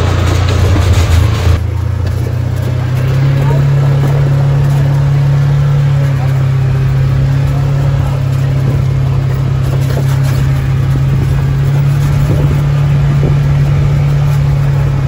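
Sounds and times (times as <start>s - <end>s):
vehicle engine drone: 0.0s - 15.0s
vehicle motion noise: 0.0s - 15.0s.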